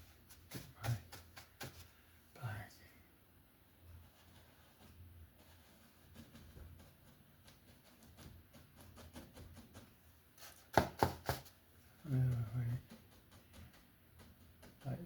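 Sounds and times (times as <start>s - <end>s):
paintbrush dabbing and scraping: 0.0s - 2.1s, 3.7s - 15.0s.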